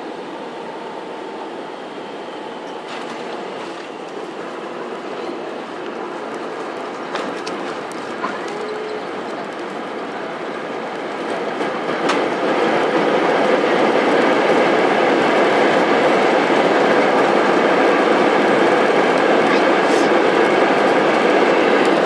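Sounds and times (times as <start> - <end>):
jet engine and wheel noise: 0.0 - 22.0.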